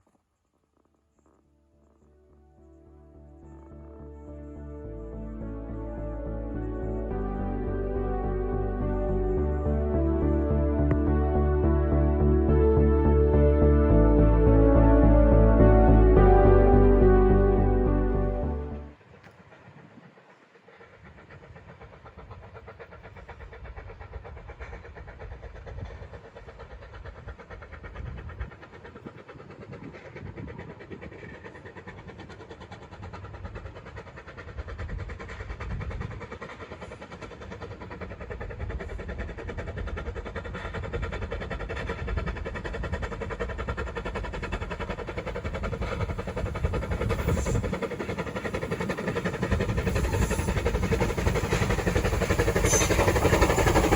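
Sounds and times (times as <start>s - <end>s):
train approaching: 1.9s - 53.9s.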